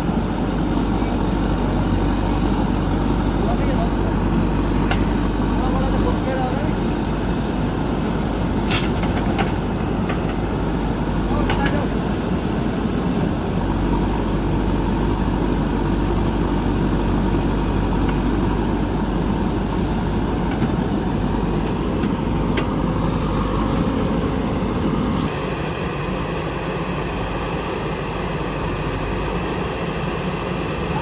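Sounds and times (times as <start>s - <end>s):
diesel engines running: 0.0s - 31.0s
higher steady engine tone: 0.0s - 31.0s.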